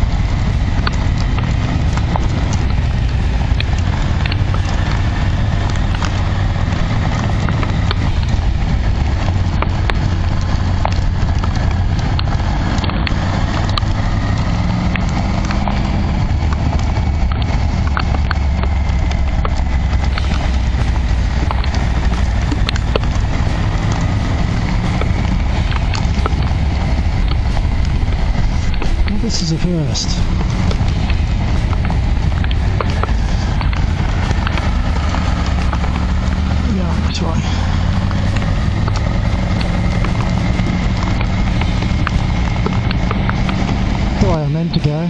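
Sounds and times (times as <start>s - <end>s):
wind rush: 0.0s - 44.8s
motorcycle engine: 0.0s - 45.0s
rain and hail ticking on camera: 0.0s - 45.0s.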